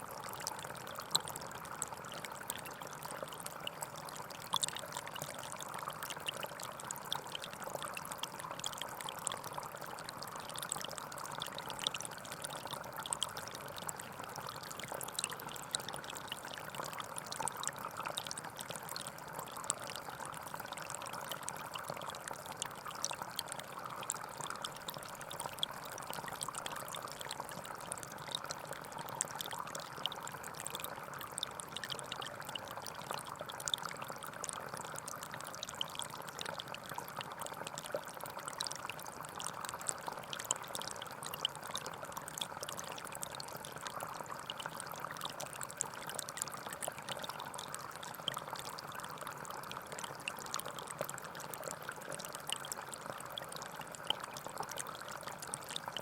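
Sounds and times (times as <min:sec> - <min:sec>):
stream flowing and trickling: 0:00.0 - 0:56.0.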